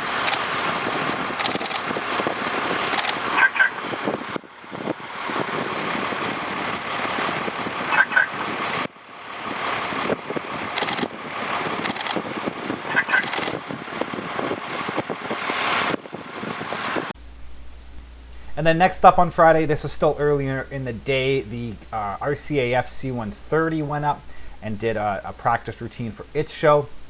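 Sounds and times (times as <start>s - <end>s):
turboprop engines running: 0.0s - 27.0s.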